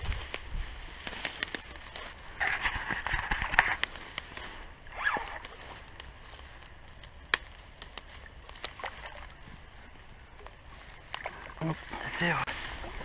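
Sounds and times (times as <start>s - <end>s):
reed stems snapping: 0.0s - 13.0s
reeds rustling and crackling: 0.0s - 13.0s
faint water sloshing: 1.2s - 13.0s.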